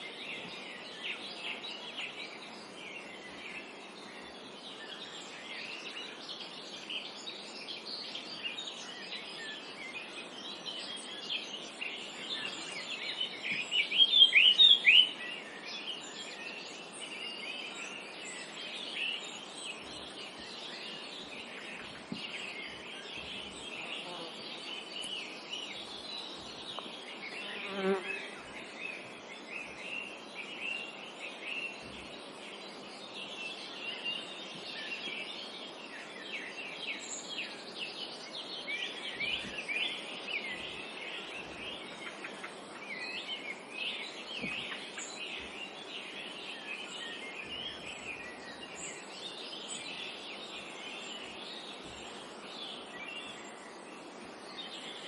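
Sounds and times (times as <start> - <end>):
faint steady background hiss: 0.0 - 55.0
small birds chirping: 0.0 - 55.0.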